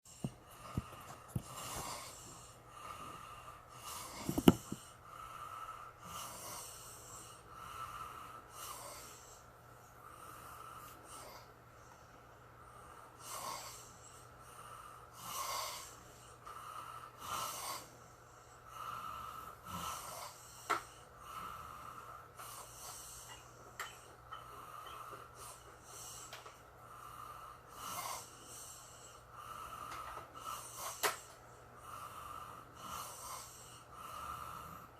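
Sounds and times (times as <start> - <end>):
person breathing: 0.1 - 34.9.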